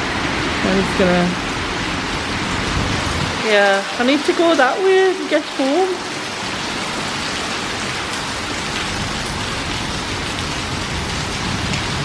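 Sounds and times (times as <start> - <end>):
heavy rain: 0.0 - 12.0
passing traffic rumble: 0.0 - 12.0.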